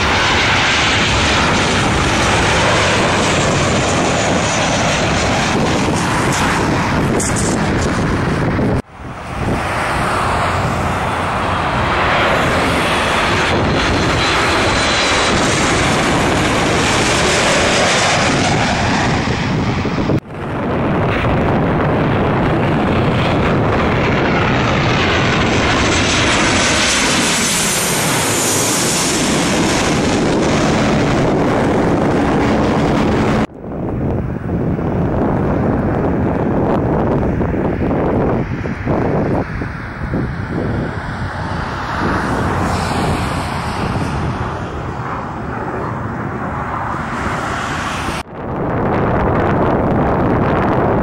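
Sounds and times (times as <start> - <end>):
jet airliners flying low: 0.0 - 51.0.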